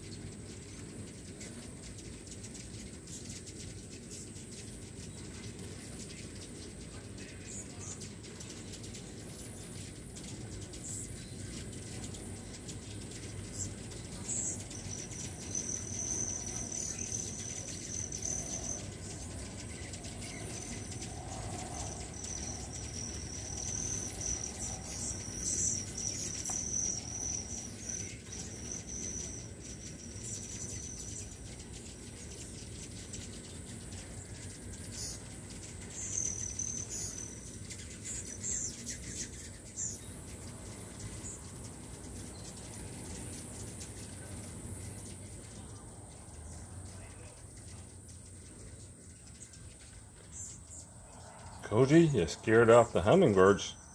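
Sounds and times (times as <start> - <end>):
hum of hovering wings: 0.0 - 53.9
hummingbirds squeaky calls: 0.0 - 53.9.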